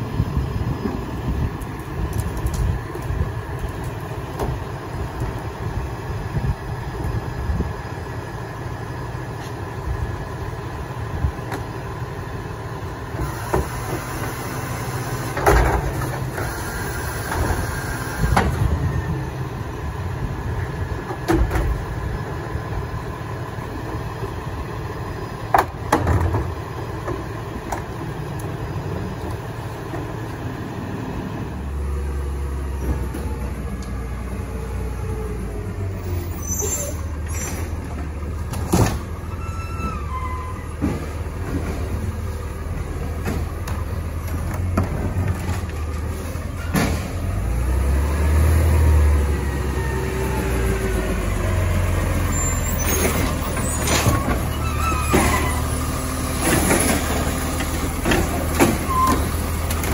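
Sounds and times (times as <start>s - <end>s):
garbage truck engine: 0.0s - 59.9s.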